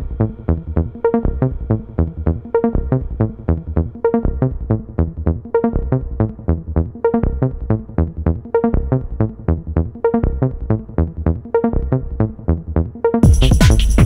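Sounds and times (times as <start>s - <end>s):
low bass pulse: 0.0s - 14.0s.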